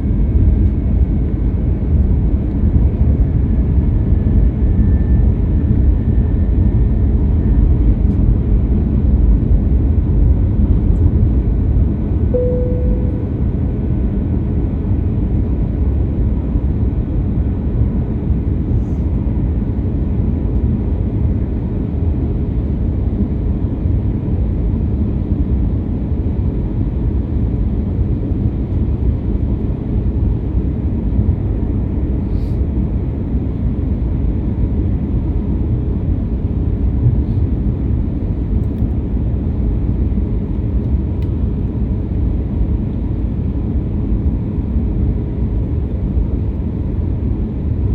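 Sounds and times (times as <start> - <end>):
airliner cabin engine rumble: 0.0 - 47.9.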